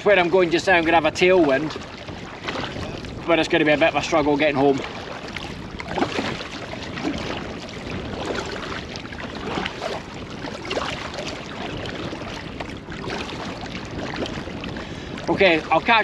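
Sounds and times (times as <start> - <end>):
water splashing around kayak: 0.0 - 16.0
wind buffeting microphone: 0.0 - 16.0.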